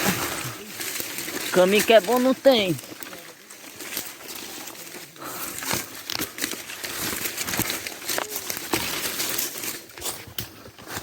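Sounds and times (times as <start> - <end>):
footsteps crunching dry leaves: 0.0 - 11.0
twigs crackling: 0.0 - 11.0.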